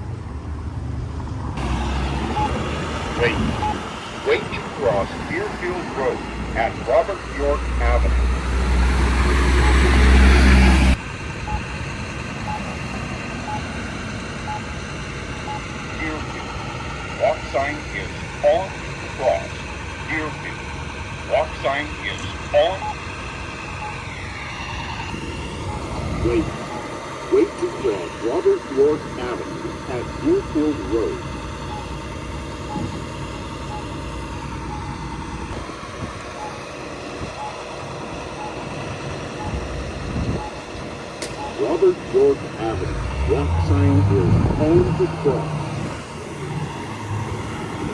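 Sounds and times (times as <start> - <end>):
passing traffic rumble: 0.0 - 47.9
crosswalk button beeping: 1.6 - 20.4, 21.5 - 47.9.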